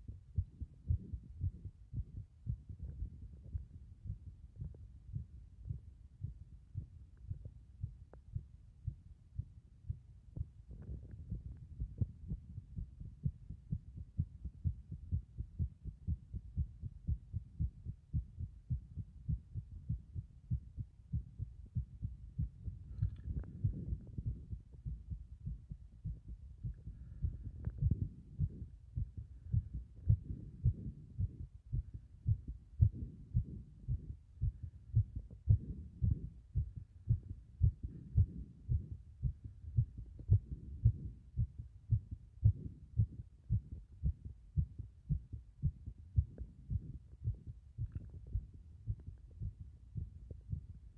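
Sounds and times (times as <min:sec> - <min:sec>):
heartbeat thuds: 0:00.0 - 0:50.9.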